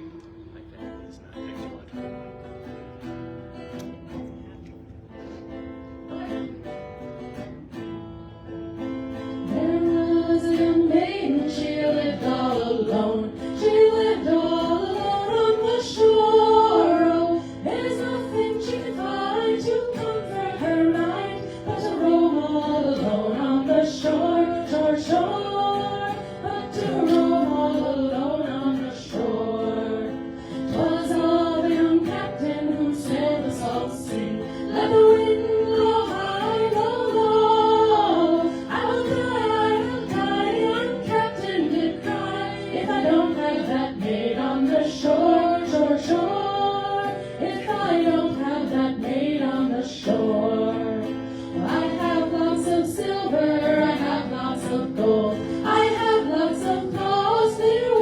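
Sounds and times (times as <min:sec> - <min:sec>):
vocal group singing in harmony: 0:09.1 - 0:58.0.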